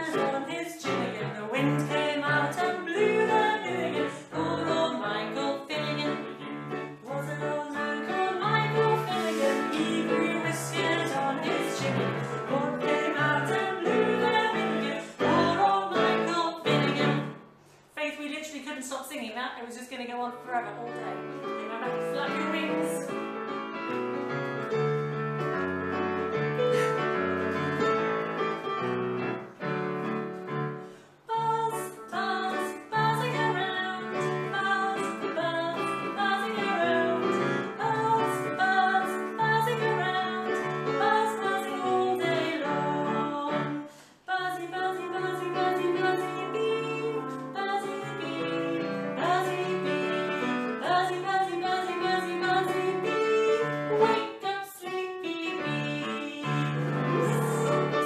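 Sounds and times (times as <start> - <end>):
woman singing: 0.0 - 17.4, 18.0 - 23.2, 31.3 - 58.0.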